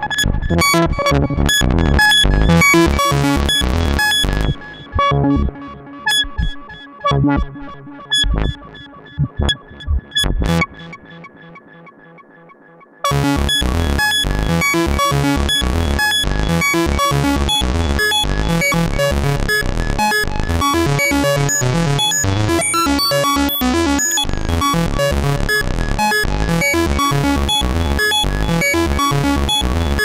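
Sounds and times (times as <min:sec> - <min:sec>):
synthesizer bass sequence with echo: 0:00.0 - 0:30.0.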